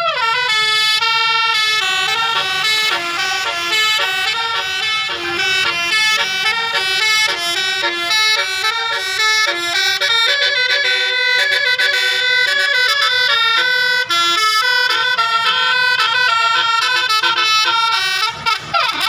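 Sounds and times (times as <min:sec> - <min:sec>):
tuned air horn melody: 0:00.0 - 0:19.0.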